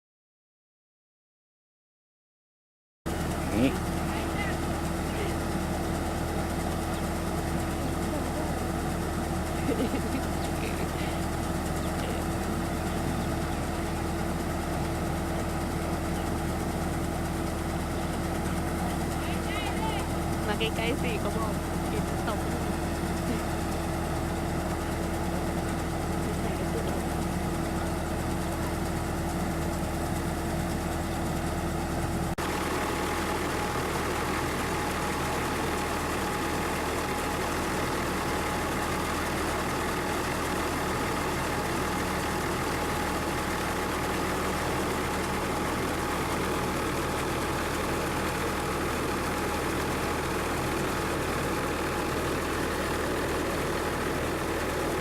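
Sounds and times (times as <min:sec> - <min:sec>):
combine harvester engine running: 0:03.1 - 0:55.0
high machinery whine: 0:03.1 - 0:55.0.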